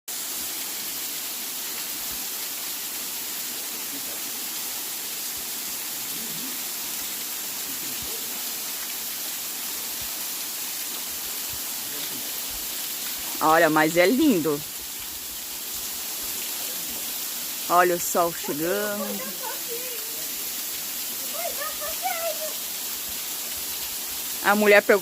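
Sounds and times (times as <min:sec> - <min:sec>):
waterfall rushing: 0:00.1 - 0:25.0.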